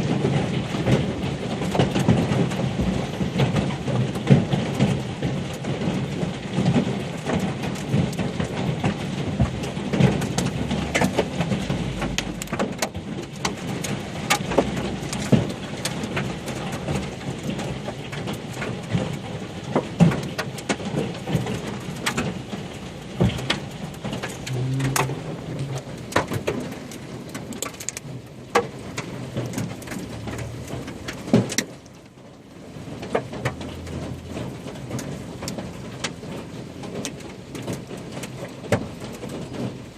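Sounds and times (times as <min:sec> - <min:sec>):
hailstones striking hard surfaces: 0:00.0 - 0:39.8
heavy rain: 0:00.0 - 0:39.9.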